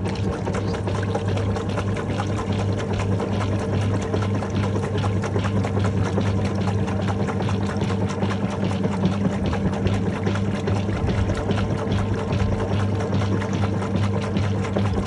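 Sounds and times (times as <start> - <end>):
low motor hum: 0.0 - 15.0
water sloshing in washing machine: 0.0 - 15.0.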